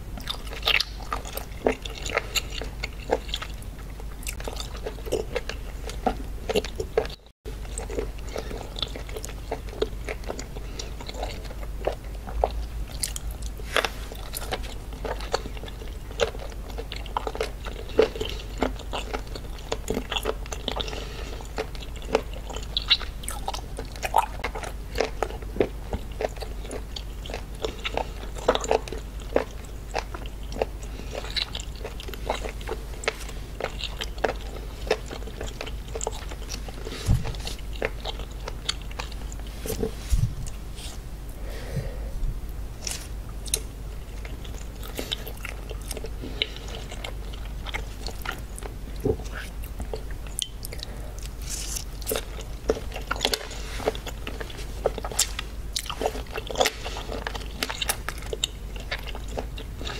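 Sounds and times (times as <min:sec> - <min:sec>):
chewing and biting seafood: 0:00.0 - 0:41.1, 0:42.8 - 0:59.9.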